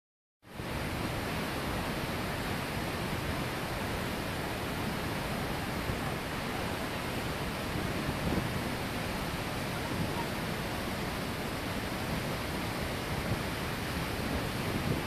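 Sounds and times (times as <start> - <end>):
waterfall rushing: 0.5 - 15.0.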